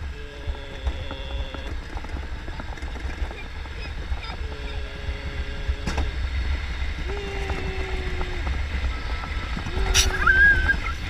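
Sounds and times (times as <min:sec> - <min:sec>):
sled rumbling down metal trough: 0:00.0 - 0:11.0
wind on microphone: 0:00.0 - 0:11.0.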